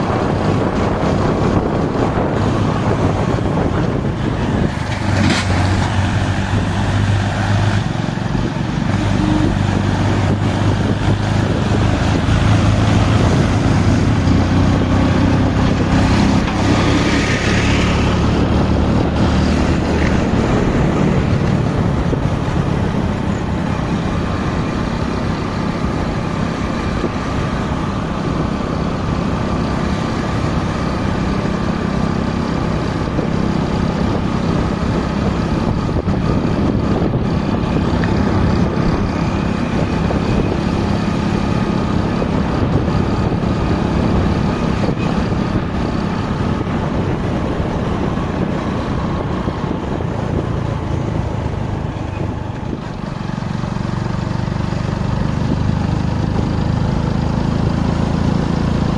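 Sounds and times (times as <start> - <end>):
motorcycle engine hum: 0.0 - 58.9
wind and road noise: 0.0 - 58.9.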